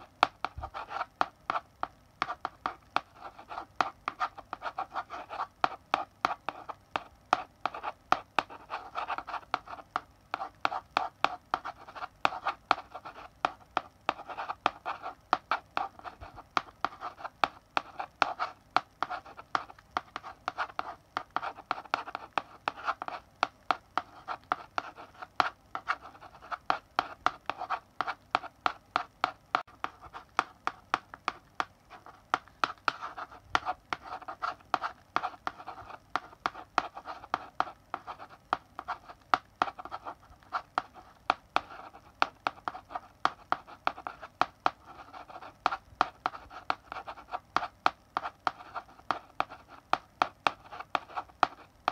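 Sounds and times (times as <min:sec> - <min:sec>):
chalk writing on blackboard: 0:00.0 - 0:51.9.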